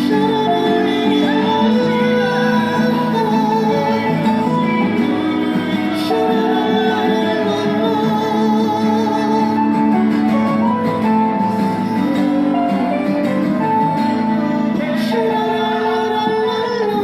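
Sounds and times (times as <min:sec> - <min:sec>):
live pop song on guitar: 0:00.0 - 0:17.0.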